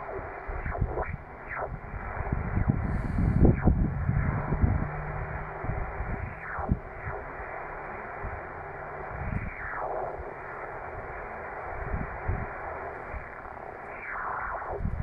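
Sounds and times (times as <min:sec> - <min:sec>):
radio band noise hiss: 0:00.0 - 0:15.0.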